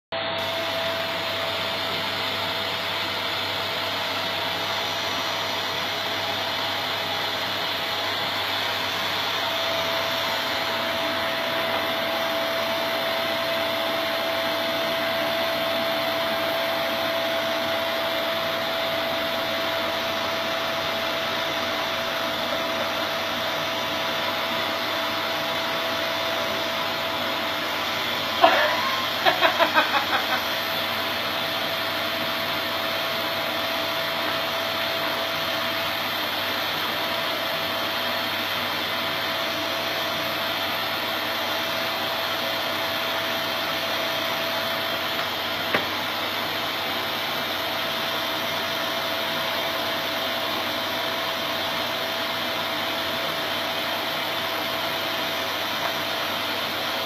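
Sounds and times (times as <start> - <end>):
vacuum cleaner running: 0.1 - 57.0.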